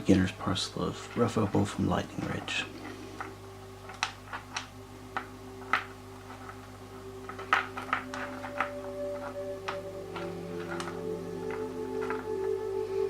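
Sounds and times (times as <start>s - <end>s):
faint steady hum: 0.0s - 13.0s
stones clicking together: 1.1s - 12.6s.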